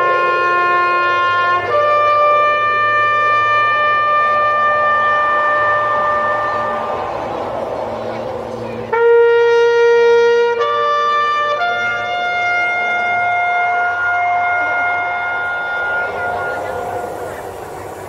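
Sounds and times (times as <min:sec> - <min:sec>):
brass horn long notes: 0:00.0 - 0:18.0.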